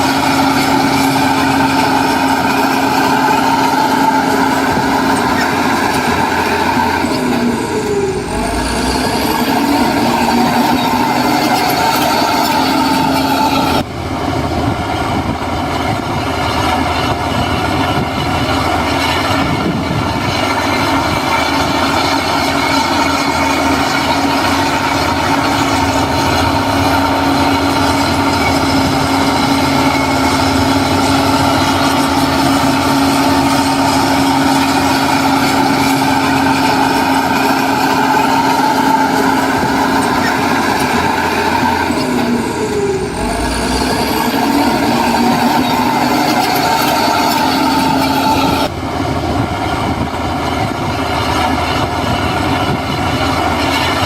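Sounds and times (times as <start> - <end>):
heavy diesel engine running: 0.0 - 54.0
steady machine whine: 0.0 - 54.0.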